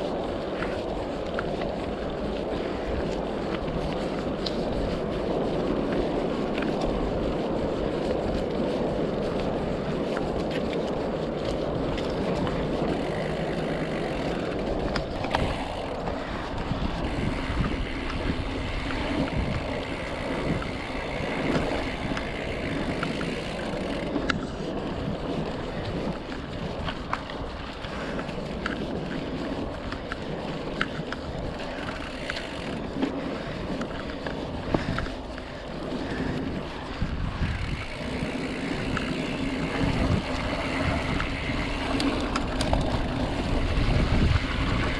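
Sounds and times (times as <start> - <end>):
bike clicks and rattles: 0.0 - 44.9
tyre and wind noise: 0.0 - 44.9.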